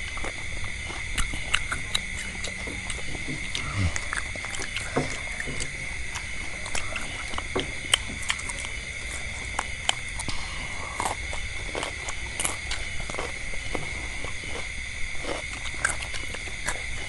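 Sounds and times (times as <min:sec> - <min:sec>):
people chewing and lip-smacking: 0:00.0 - 0:17.0
steady high-pitched whine: 0:00.0 - 0:17.0.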